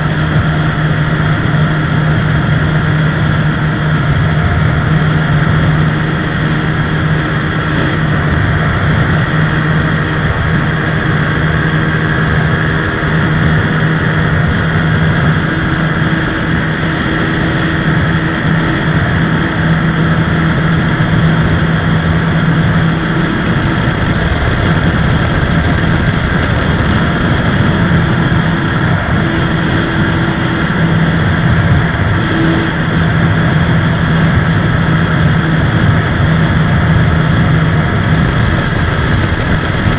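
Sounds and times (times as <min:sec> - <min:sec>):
motorcycle engine at speed: 0:00.0 - 0:39.9
rush of noise: 0:00.0 - 0:39.9.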